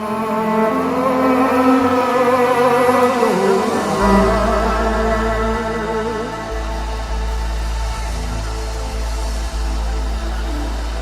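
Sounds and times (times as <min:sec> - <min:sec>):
deep sustained bass note: 0:00.0 - 0:11.0
held chords: 0:00.0 - 0:11.0.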